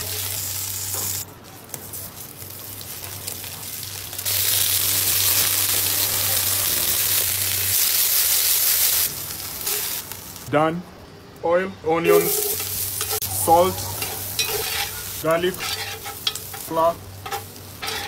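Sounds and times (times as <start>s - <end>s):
meat sizzling in hot oil: 0.0s - 10.5s, 12.1s - 18.0s.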